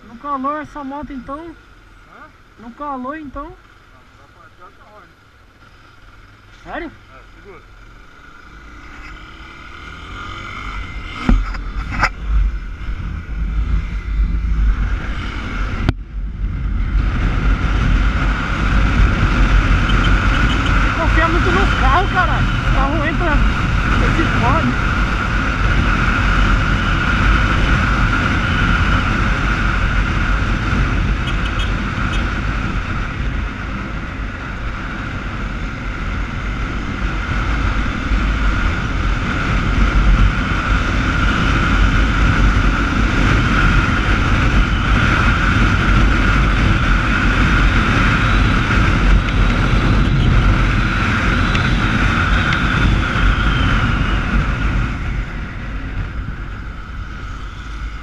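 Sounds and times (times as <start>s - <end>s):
motorcycle engine running: 0.0s - 58.0s
road noise: 0.0s - 58.0s
wind rushing over microphone: 8.3s - 58.0s.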